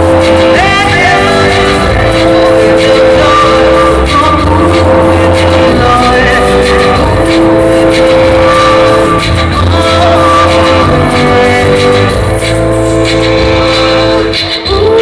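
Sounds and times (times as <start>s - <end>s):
rock band playing: 0.0s - 14.8s.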